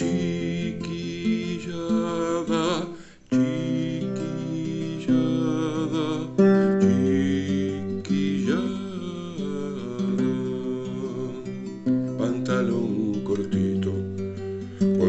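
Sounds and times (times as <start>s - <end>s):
classical guitar strummed: 0.0s - 15.0s
man singing: 0.0s - 15.0s.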